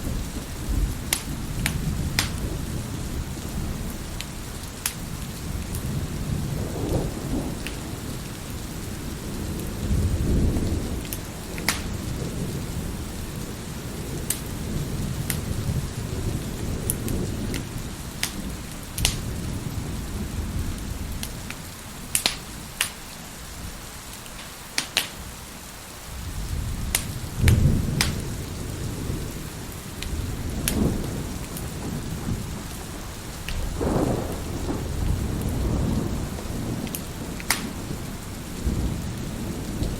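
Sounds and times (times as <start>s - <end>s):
thunder rumbling: 0.0s - 22.9s, 26.1s - 39.9s
wood fire crackling: 0.0s - 23.3s, 24.0s - 25.4s, 26.1s - 39.9s
steady rain: 0.0s - 39.9s.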